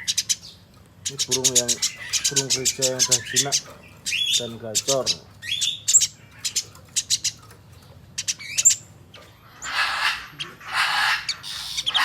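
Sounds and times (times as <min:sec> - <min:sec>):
harsh rasping bird calls: 0:00.0 - 0:12.0
sparrow chirping: 0:00.0 - 0:12.0.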